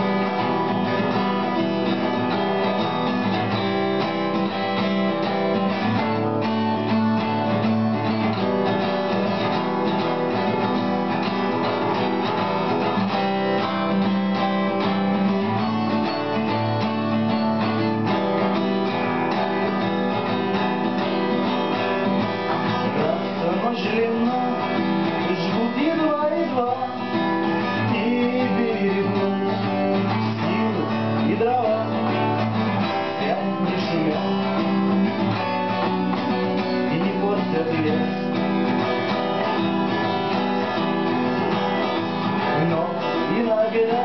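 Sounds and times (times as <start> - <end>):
strummed acoustic guitar chords: 0.0 - 44.0.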